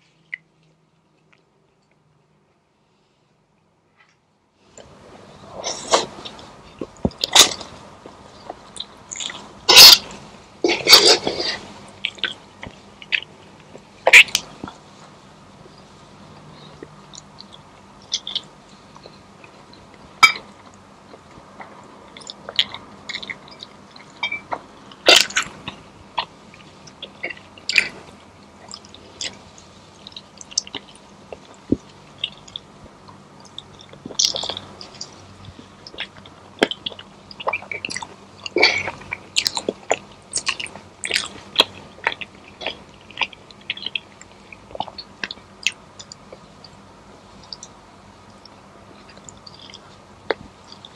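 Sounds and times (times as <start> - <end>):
person chewing food: 4.8 - 14.8, 16.4 - 46.8, 47.4 - 50.9
food crunching: 5.7 - 14.8, 16.6 - 46.8, 47.4 - 50.9.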